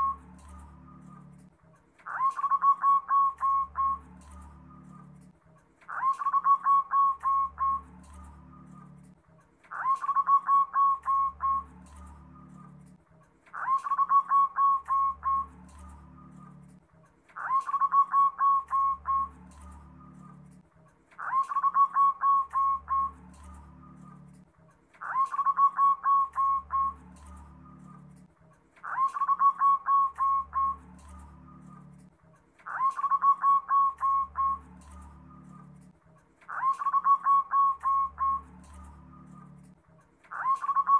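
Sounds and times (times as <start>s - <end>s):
dove cooing song: 0.0s - 20.6s, 21.2s - 24.4s, 25.0s - 35.9s, 36.5s - 40.9s.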